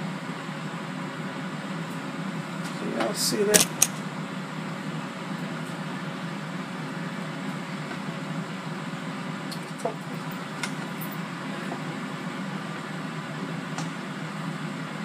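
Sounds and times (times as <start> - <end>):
air fryer fan whir: 0.0 - 15.0.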